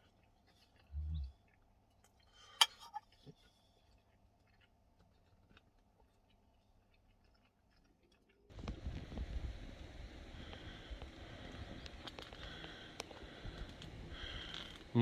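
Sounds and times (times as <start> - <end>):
chewing: 0.0 - 9.2, 10.4 - 15.0.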